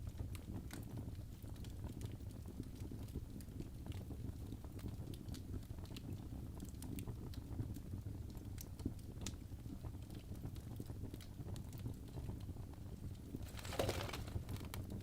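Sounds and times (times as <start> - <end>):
wood fire crackling in fireplace: 0.0 - 15.0.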